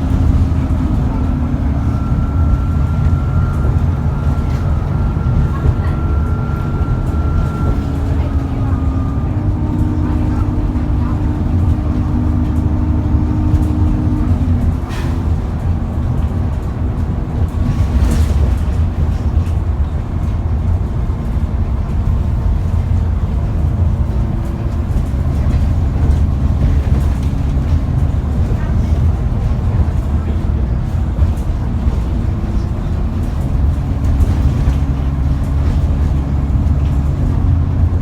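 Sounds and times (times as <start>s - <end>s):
bus engine rumbling: 0.0s - 38.0s
engine hum: 0.0s - 38.0s.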